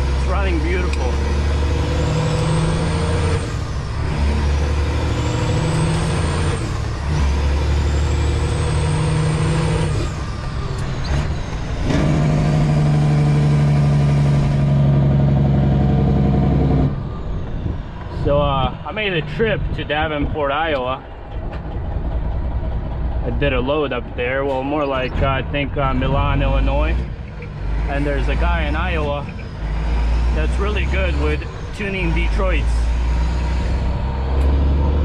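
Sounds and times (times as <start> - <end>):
truck engine pulling through gears: 0.0 - 35.0.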